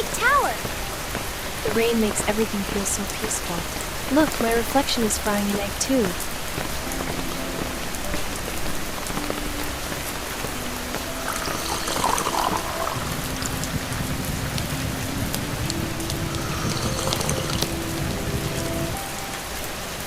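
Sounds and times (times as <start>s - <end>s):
water drips: 0.0s - 19.0s
steady rain falling: 0.0s - 20.0s.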